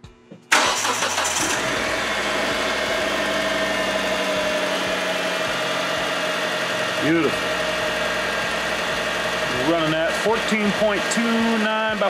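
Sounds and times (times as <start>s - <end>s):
car engine starting and idling: 0.5s - 12.0s.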